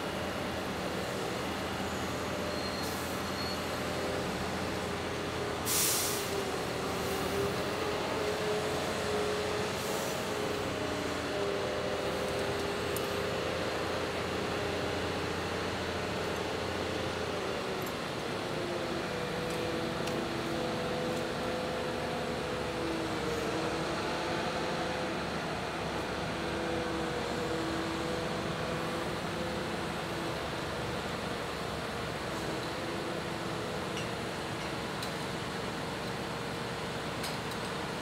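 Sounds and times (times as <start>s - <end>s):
crane diesel engine and hydraulics: 0.0s - 38.0s.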